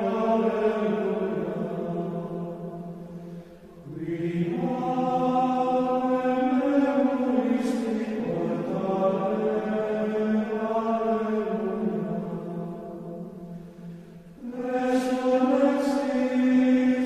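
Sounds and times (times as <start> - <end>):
voices singing a chant: 0.0 - 17.0.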